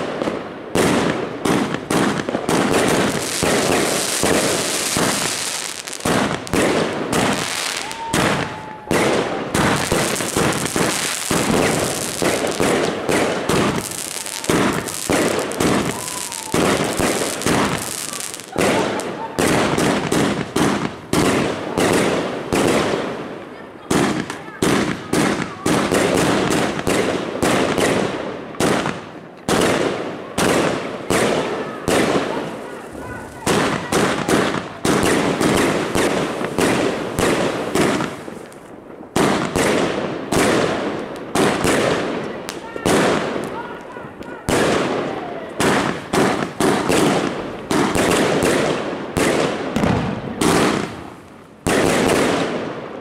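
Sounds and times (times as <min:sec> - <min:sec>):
firework shots: 0:00.0 - 0:53.0.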